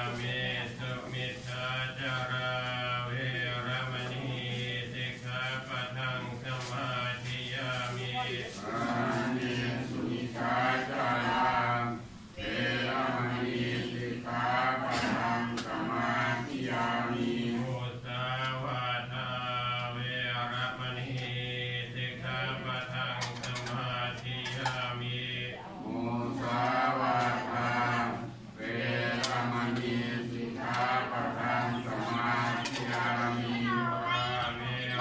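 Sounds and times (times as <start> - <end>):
monks chanting in unison: 0.0 - 33.7, 34.4 - 35.0.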